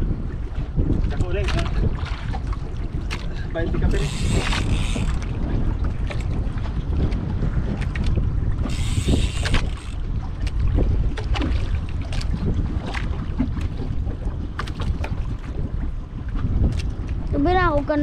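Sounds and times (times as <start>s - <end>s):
water against boat hull: 0.0s - 18.0s
wind buffeting microphone: 0.0s - 18.0s.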